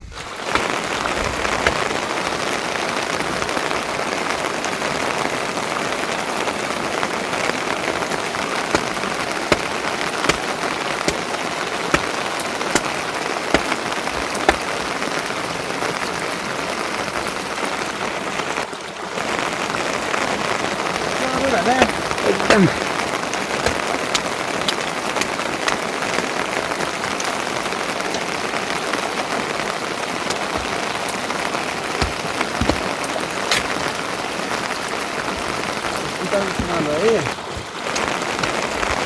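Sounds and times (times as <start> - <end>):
steady rain hiss: 0.0 - 39.0
water dripping on hard surface: 0.1 - 39.0.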